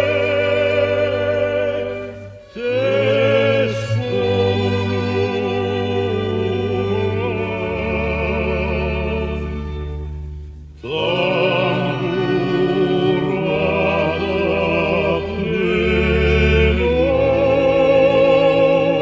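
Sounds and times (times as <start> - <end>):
man singing with vibrato: 0.0 - 10.0, 10.8 - 19.0
sustained low accompaniment: 0.0 - 19.0.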